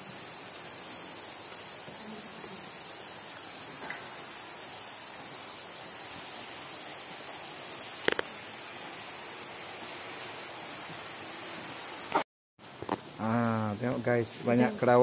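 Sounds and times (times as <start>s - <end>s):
cave ambience hiss: 0.0s - 15.0s.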